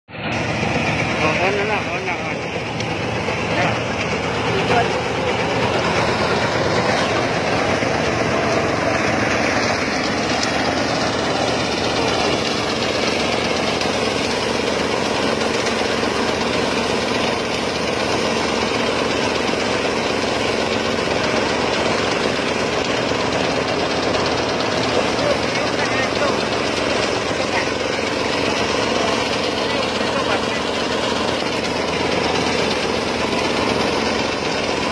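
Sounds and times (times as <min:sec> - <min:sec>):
rice thresher engine running: 0:00.1 - 0:34.9.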